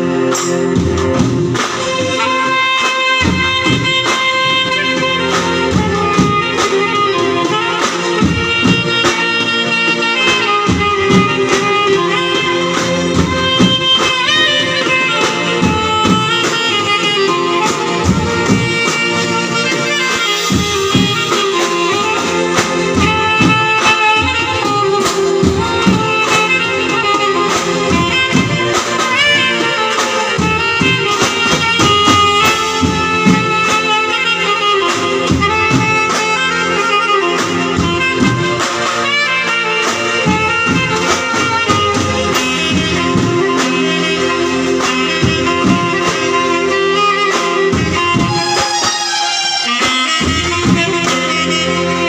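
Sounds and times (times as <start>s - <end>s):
drum kit and hand percussion: 0.0s - 52.0s
saxophone and keyboard melody: 0.0s - 52.0s.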